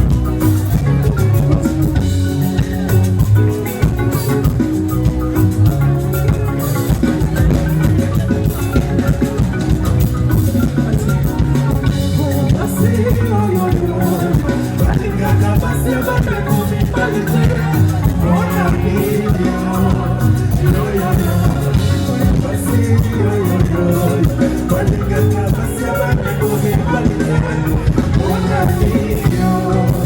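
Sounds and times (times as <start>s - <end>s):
upbeat music with drums and guitar: 0.0s - 30.0s
person singing: 5.8s - 30.0s.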